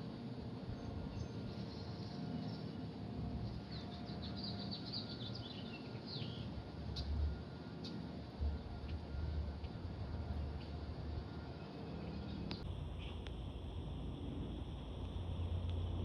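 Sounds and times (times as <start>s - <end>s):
low background rumble: 0.0s - 16.0s
songbirds chirping and trilling: 0.5s - 13.3s.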